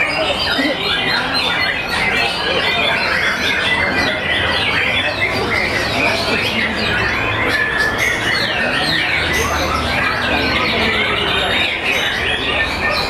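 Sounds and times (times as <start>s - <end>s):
birds singing whistled phrases: 0.0s - 13.0s.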